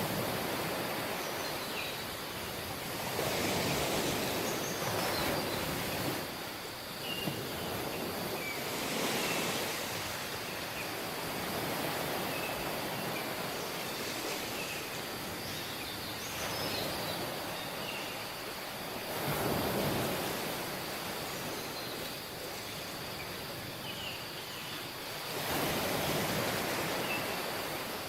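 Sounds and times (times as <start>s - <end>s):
waves washing onto beach: 0.0s - 28.0s.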